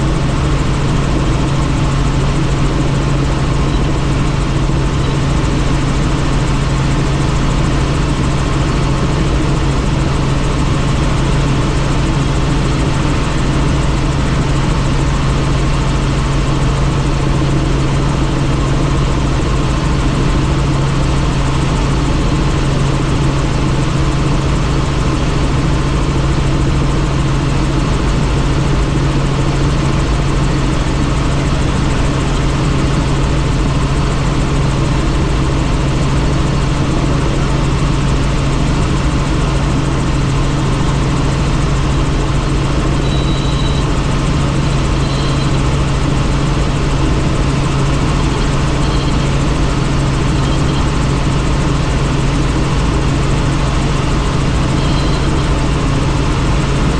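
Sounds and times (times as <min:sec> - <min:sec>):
helicopter turbine and rotors: 0:00.0 - 0:56.9.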